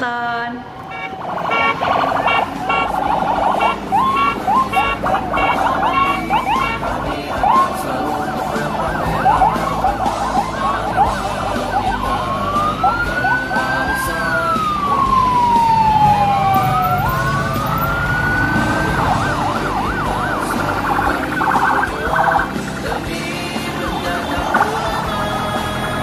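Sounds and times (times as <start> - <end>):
electronic siren yelping and wailing: 0.5 - 26.0.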